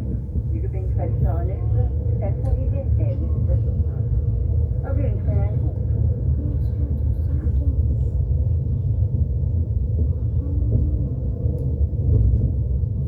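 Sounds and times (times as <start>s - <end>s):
train rumbling from inside carriage: 0.0s - 13.0s.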